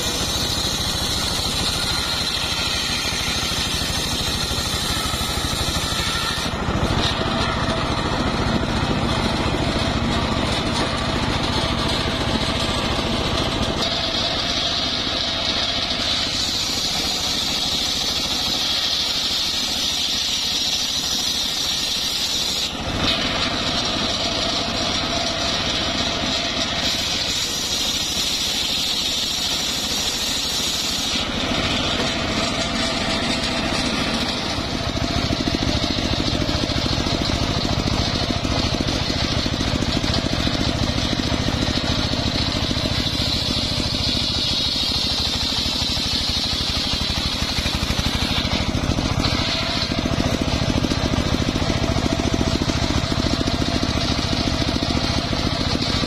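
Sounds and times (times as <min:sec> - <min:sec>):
engine drone: 0:00.0 - 0:56.0
saw blade whining through timber: 0:00.0 - 0:56.0.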